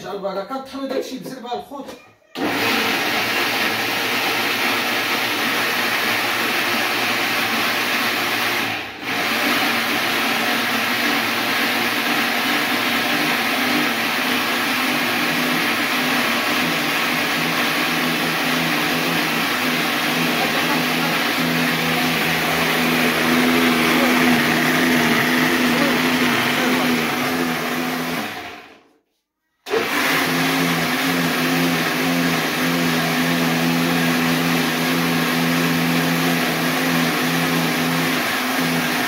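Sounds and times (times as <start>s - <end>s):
electric grinder running: 2.4s - 28.8s, 29.7s - 39.0s.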